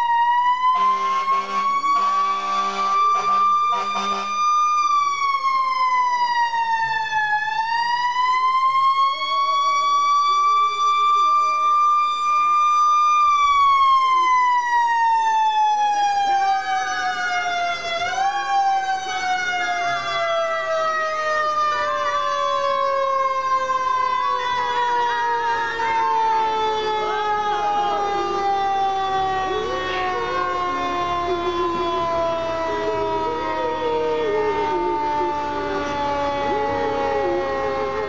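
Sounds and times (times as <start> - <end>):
fire engine siren wailing: 0.0 - 38.0.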